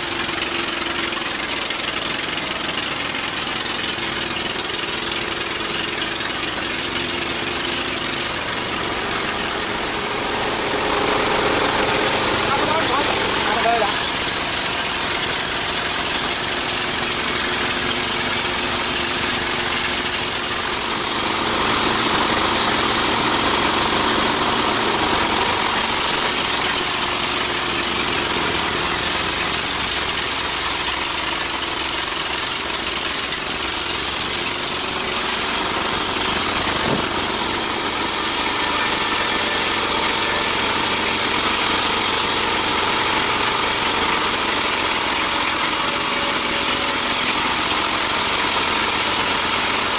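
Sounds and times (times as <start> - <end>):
sawmill machinery droning: 0.0 - 49.9.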